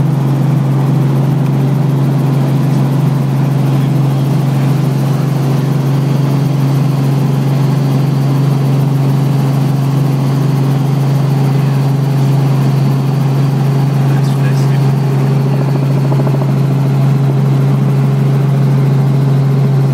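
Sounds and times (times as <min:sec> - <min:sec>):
helicopter cabin drone: 0:00.0 - 0:19.9.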